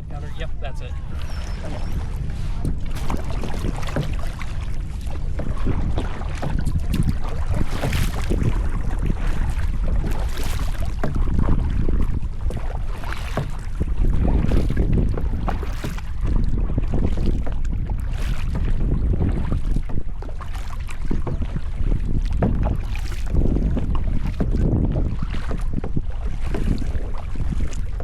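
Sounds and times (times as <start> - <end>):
water splashing around kayak: 0.0 - 28.0
wind rumble on microphone: 0.0 - 28.0.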